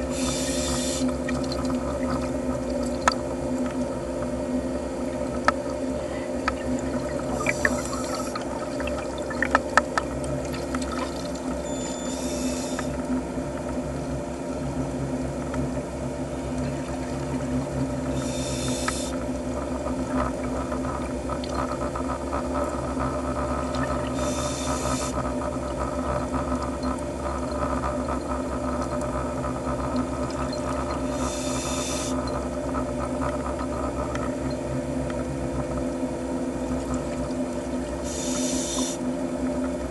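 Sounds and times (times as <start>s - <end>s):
low underwater drone: 0.0s - 39.9s.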